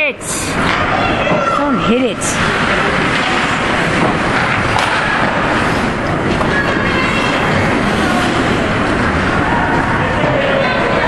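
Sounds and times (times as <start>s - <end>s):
ice hockey game noise: 0.0s - 11.0s.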